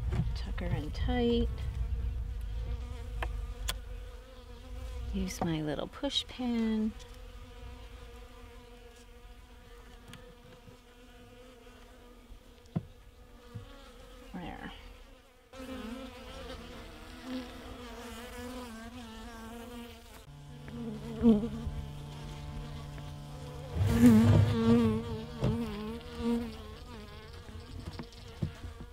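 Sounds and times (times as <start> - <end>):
bees buzzing: 0.6 - 28.9.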